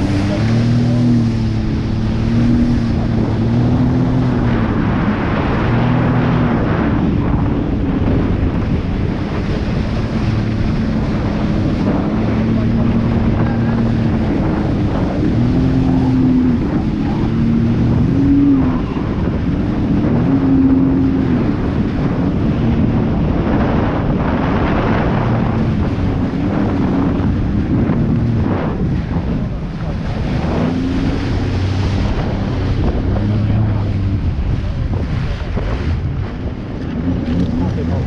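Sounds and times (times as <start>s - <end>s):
jet ski engine revving: 0.0s - 38.0s
water rushing: 0.0s - 38.0s
wind buffeting microphone: 0.0s - 38.0s.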